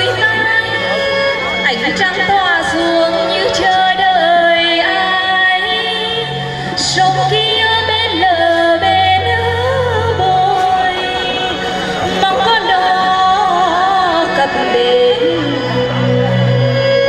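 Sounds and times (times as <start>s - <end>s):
woman singing a folk song: 0.0s - 15.7s
instrumental backing: 0.0s - 17.0s.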